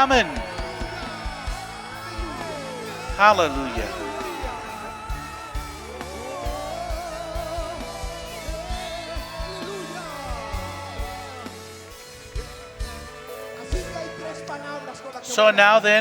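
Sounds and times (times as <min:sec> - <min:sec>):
steady drum beat: 0:00.0 - 0:14.6
held instrument tones: 0:00.0 - 0:16.0
person singing: 0:00.0 - 0:16.0.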